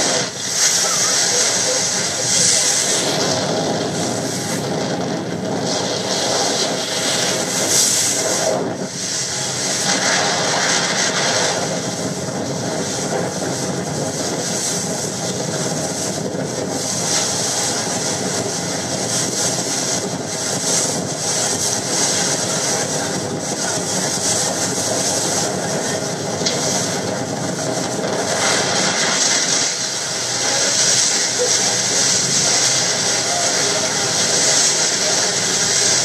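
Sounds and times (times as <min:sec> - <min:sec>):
boat engine running: 0:00.0 - 0:36.0
wind on microphone: 0:00.0 - 0:36.0.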